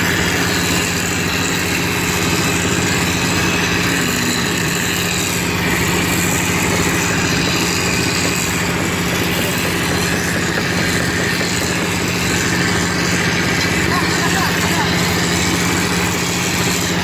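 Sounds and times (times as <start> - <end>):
plastering machine humming: 0.0 - 17.0.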